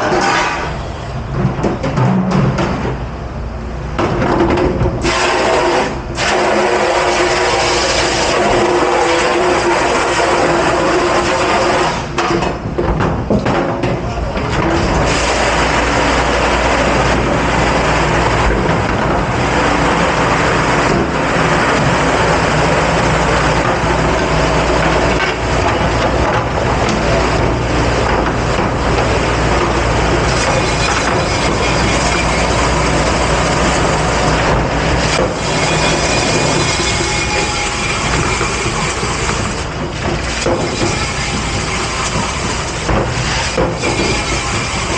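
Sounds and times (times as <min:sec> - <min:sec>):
dishwashing machine running: 0:00.0 - 0:44.9.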